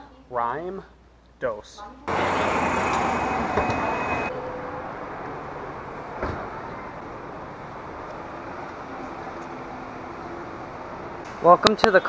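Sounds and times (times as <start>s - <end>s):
parking garage background rush: 1.8s - 12.0s
distant traffic hum: 2.1s - 12.0s.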